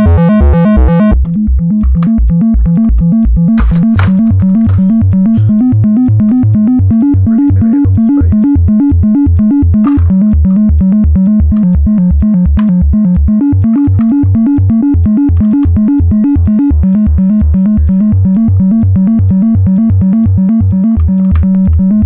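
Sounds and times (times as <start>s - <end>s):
synthesizer arpeggiated bass pattern: 0.0s - 22.0s.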